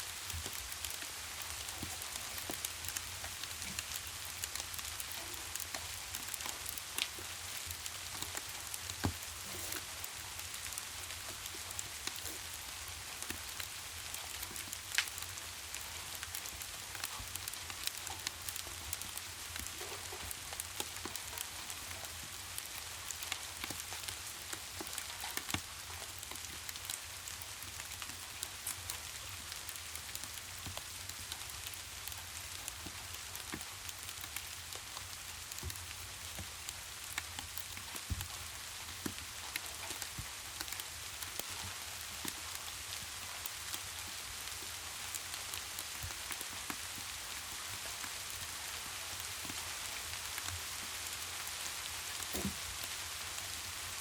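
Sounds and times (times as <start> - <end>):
fireplace crackling and popping: 0.0 - 54.0
rain hissing: 0.0 - 54.0.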